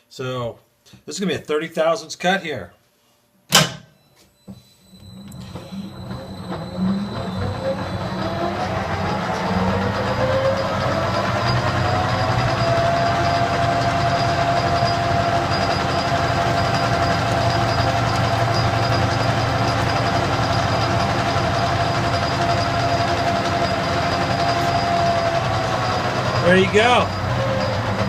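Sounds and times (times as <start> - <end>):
metal lathe motor and gear whine: 5.0 - 28.0.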